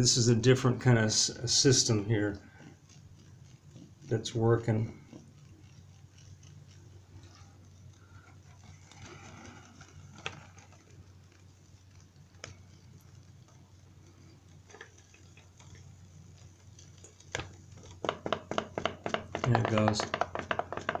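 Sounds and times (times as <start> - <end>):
low steady hum: 0.0 - 21.0
pop-pop boat engine ticking: 0.0 - 21.0.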